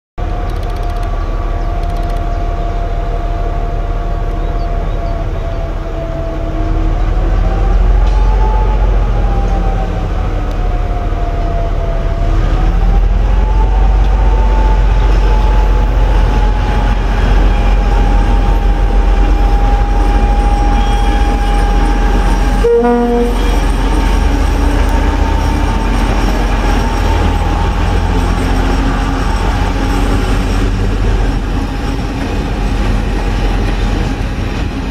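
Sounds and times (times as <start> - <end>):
diesel locomotive engine rumbling: 0.2 - 34.9
whining tone: 0.3 - 34.4.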